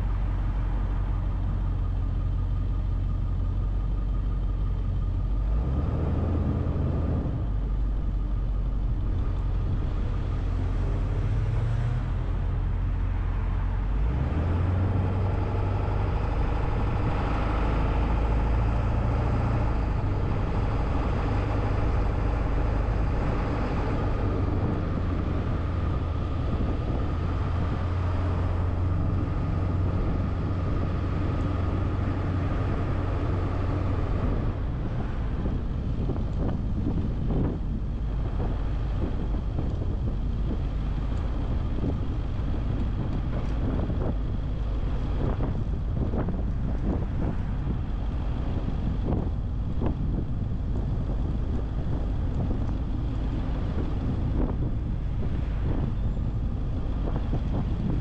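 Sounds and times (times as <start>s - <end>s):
car road and wind noise: 0.0s - 58.0s.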